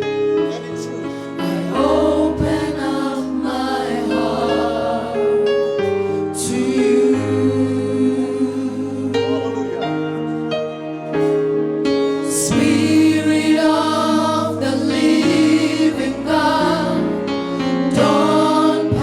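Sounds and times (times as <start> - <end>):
bass: 0.0 - 19.0
gospel choir singing: 0.0 - 19.0
keyboard chords: 0.0 - 19.0.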